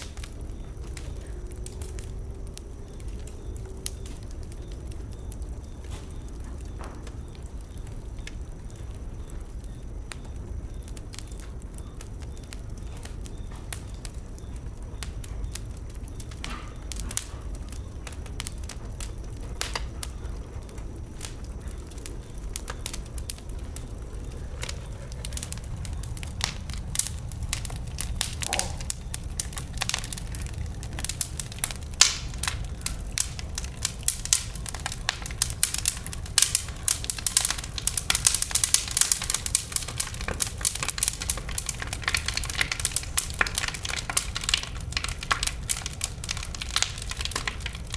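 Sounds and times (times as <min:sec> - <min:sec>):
logs crackling and popping: 0:00.0 - 0:47.9
low rumble of flames: 0:00.0 - 0:47.9.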